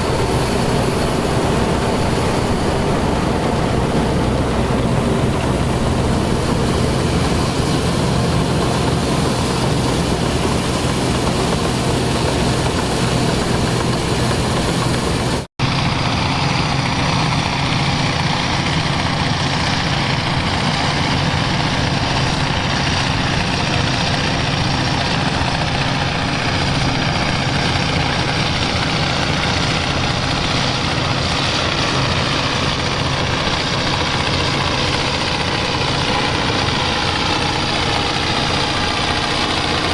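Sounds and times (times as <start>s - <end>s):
brighter-sounding engine: 0.0s - 39.9s
heavy farm machinery engines: 0.0s - 39.9s.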